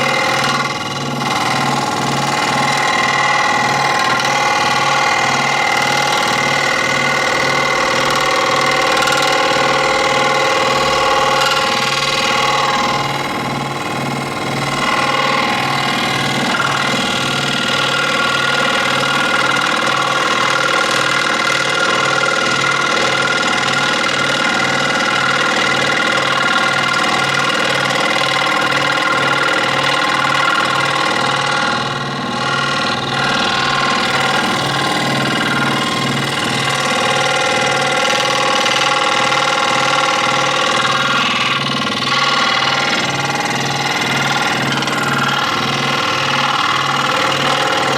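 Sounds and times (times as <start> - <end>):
scroll saw running: 0.0 - 47.9.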